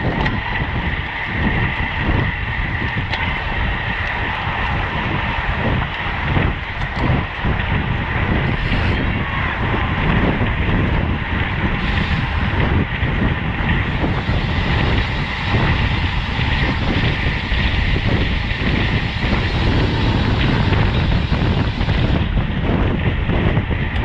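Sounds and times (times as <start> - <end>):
road noise: 0.0 - 24.0
rushing wind: 0.0 - 24.0.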